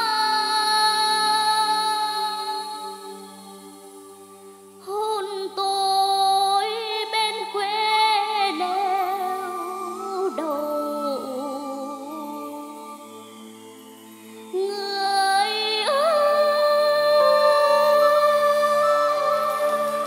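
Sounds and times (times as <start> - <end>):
child singing a slow ballad: 0.0 - 4.0, 4.8 - 13.0, 14.5 - 20.0.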